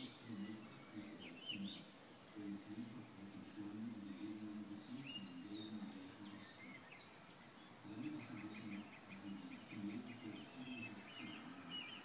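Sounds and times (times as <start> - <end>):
birds singing: 0.0 - 12.0
faint low hum: 0.0 - 12.0.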